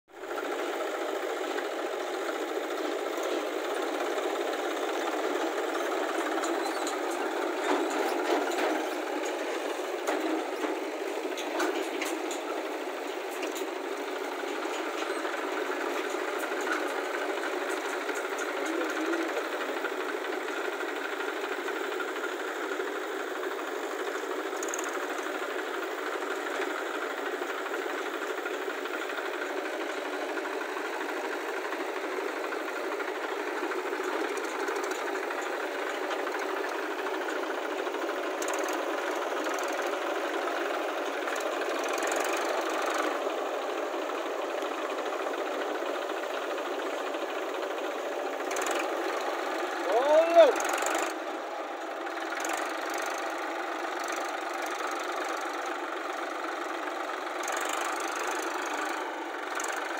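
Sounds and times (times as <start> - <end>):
tractor diesel engine running: 0.1 - 59.9.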